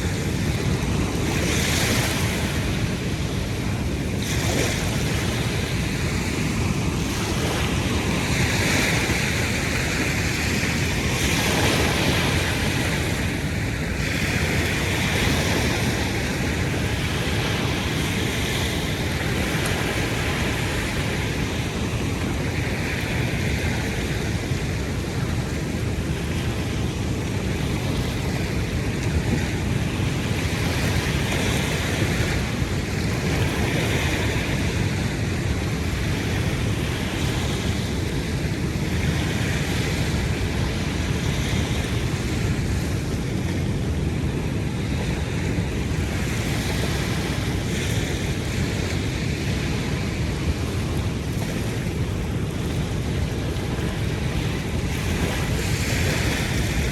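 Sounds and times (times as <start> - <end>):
ocean surf washing onto beach: 0.0 - 56.9
wind rumble on microphone: 0.0 - 56.9.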